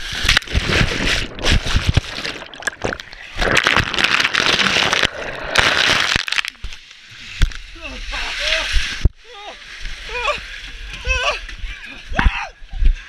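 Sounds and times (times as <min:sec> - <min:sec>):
ice water sloshing and splashing: 0:00.0 - 0:12.0.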